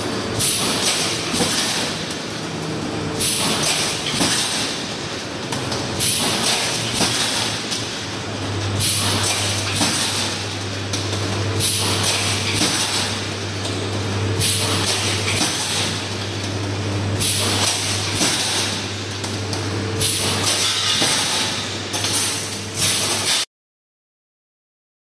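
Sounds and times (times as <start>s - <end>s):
machine low hum: 0.0s - 23.3s.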